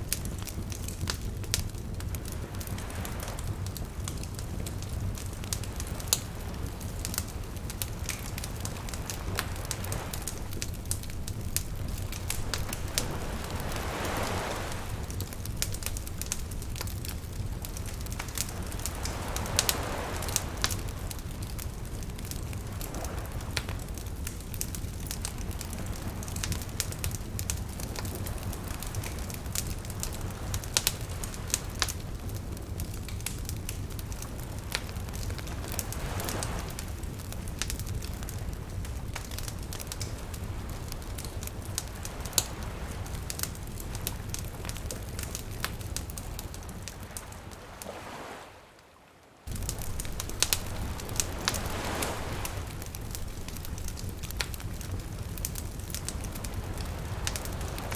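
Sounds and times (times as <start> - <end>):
campfire crackling and popping: 0.0 - 48.2, 49.5 - 57.9
small waves washing ashore: 0.0 - 57.9.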